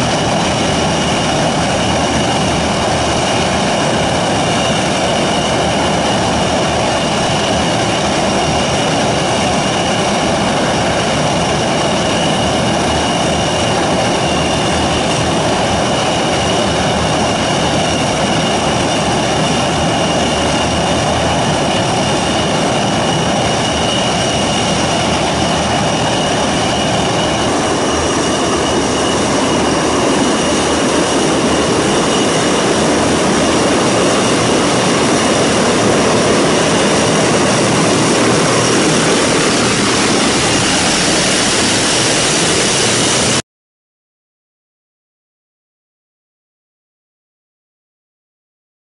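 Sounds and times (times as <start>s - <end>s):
turboprop engines droning: 0.0s - 43.4s.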